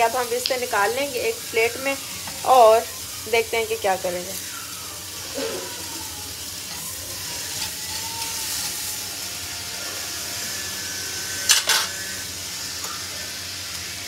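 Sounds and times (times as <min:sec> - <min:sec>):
meat sizzling on grill pan: 0:00.0 - 0:14.0.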